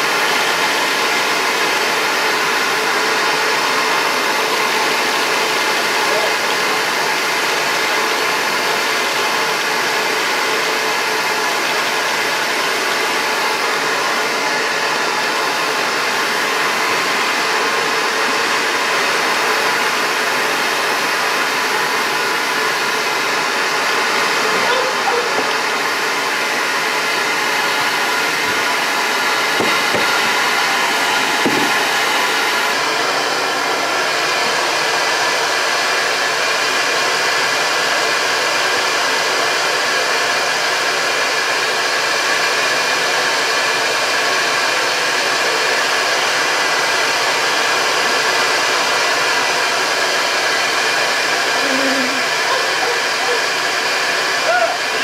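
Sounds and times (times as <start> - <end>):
vacuum motor running: 0.0 - 55.0.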